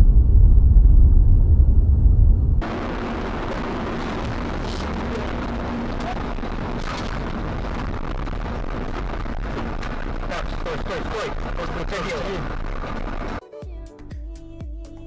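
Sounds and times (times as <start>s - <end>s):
faint steady hum: 0.0s - 13.4s
vehicle driving rumble: 0.0s - 13.4s.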